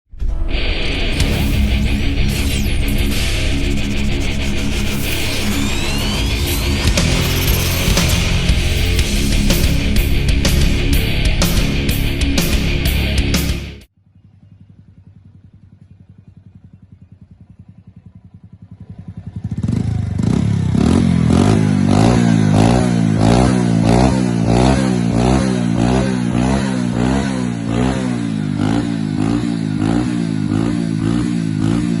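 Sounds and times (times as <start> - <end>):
motorcycle engine revving: 0.8 - 32.0.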